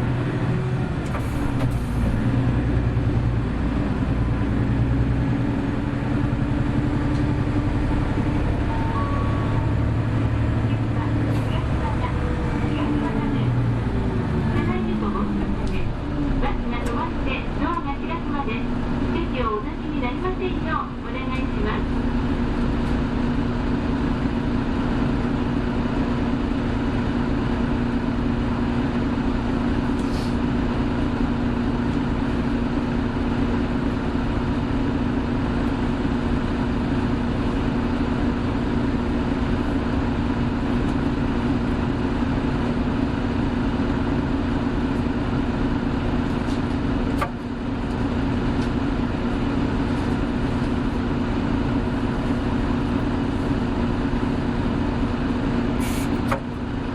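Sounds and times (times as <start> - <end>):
bus drivetrain humming: 0.0 - 56.9.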